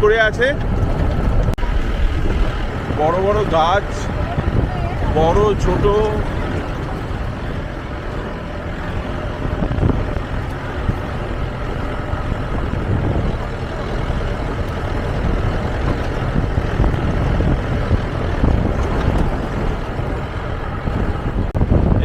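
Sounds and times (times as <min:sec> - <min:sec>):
vehicle engine and road rumble: 0:00.0 - 0:22.0
vehicle knocking on bumps: 0:00.0 - 0:22.0.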